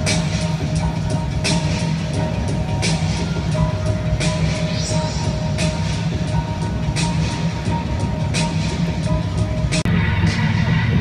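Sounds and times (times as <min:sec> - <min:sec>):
loud music with heavy bass: 0:00.0 - 0:11.0.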